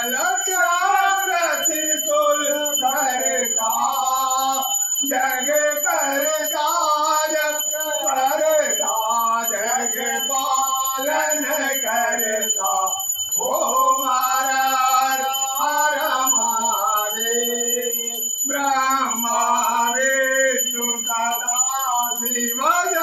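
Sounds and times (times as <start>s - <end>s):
man singing devotional song: 0.0s - 23.0s.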